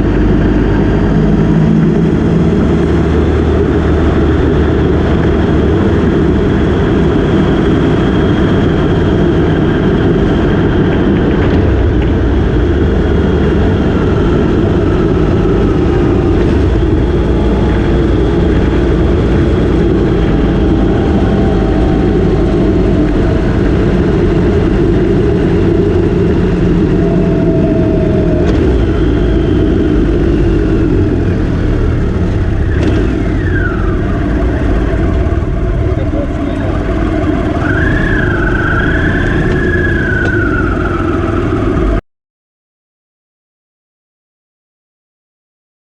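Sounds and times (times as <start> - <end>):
motorcycle engine running: 0.0 - 42.0
wind rush on microphone: 0.0 - 42.0
high tone sweeping downward: 0.1 - 42.0.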